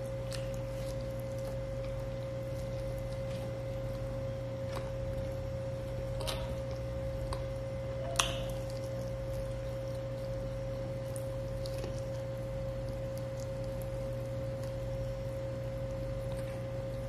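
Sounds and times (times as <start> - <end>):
man chewing food: 0.0 - 17.0
steady hum: 0.0 - 17.0.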